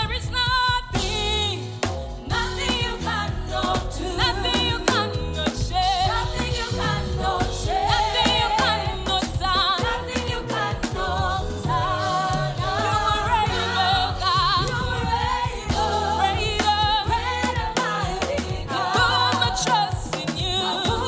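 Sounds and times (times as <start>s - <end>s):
band with bass and drums: 0.0s - 21.0s.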